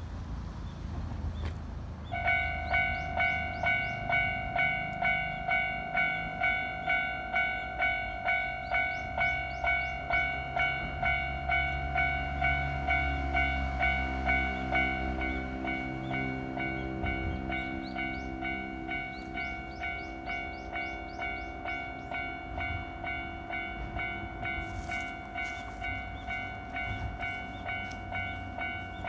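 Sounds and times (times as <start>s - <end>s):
level crossing warning bell: 2.0s - 29.0s.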